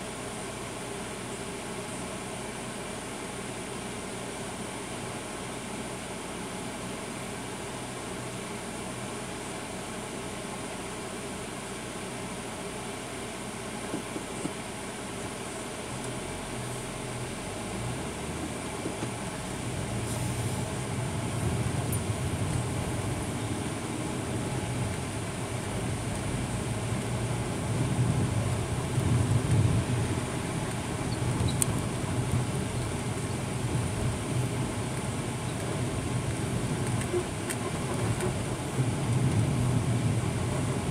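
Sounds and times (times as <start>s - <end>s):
cab hum and hiss: 0.0s - 40.9s
truck engine and road rumble: 0.0s - 40.9s.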